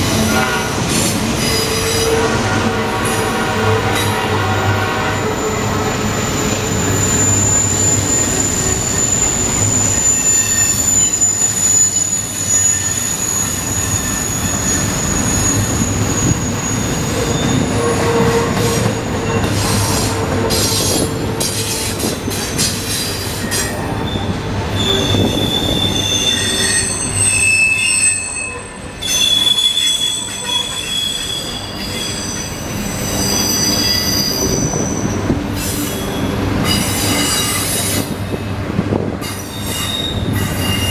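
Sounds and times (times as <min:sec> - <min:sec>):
high wheel squeal: 0:00.0 - 0:38.2, 0:39.2 - 0:40.9
train wheels rumbling: 0:00.0 - 0:40.9.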